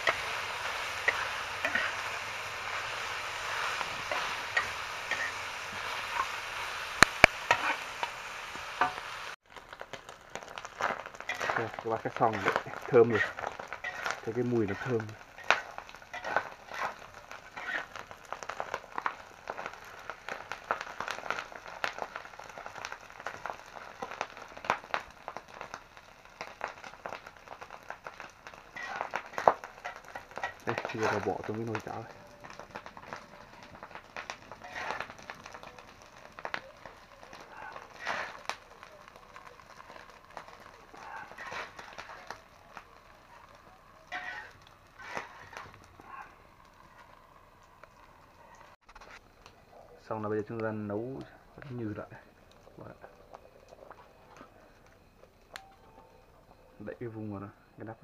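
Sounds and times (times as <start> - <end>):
meat sizzling in a pan: 0.0 - 48.8
wood fire crackling: 0.0 - 58.0.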